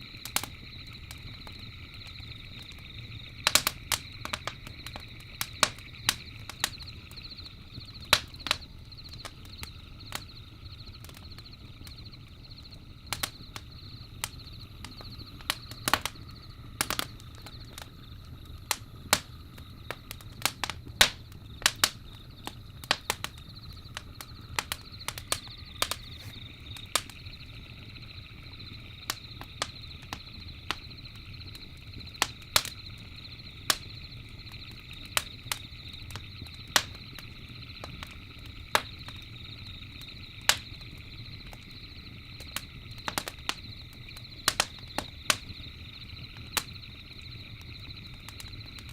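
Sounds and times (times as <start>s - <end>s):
campfire crackling and popping: 0.0s - 48.9s
night insects chirring: 0.0s - 48.9s.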